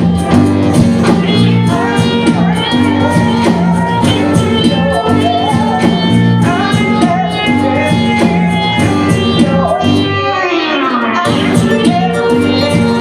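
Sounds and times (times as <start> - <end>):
live band song with singing: 0.0 - 13.0.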